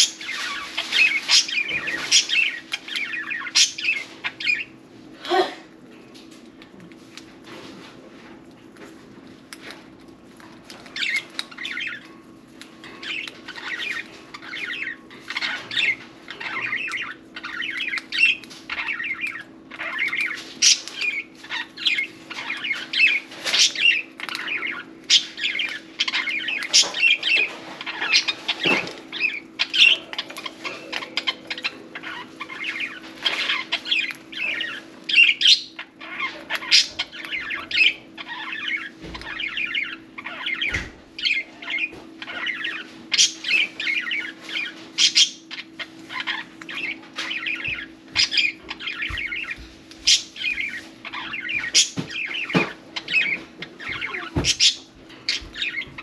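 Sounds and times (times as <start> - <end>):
budgerigars chattering and chirping: 0.0 - 4.8, 10.7 - 56.0.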